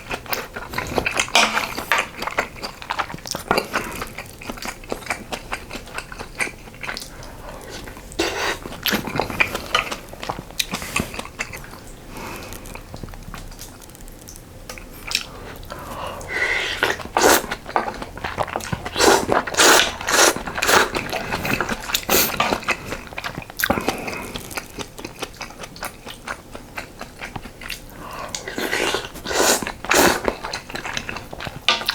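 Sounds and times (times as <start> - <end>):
close chewing with wet smacks: 0.0 - 31.9.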